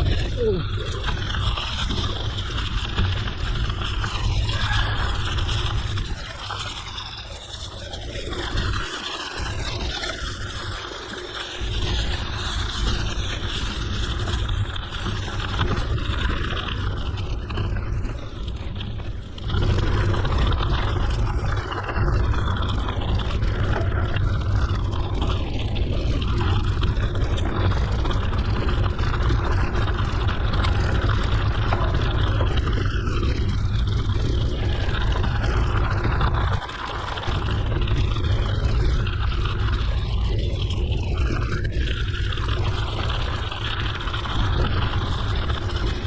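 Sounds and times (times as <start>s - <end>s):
bike tyre noise: 0.0s - 46.0s
wind rumbling on microphone: 0.0s - 46.0s.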